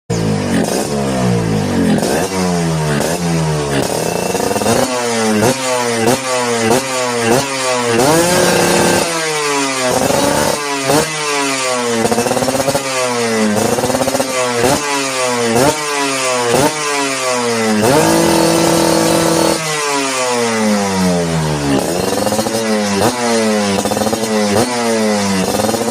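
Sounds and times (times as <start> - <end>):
two-stroke motorcycle engine revving: 0.1 - 25.9.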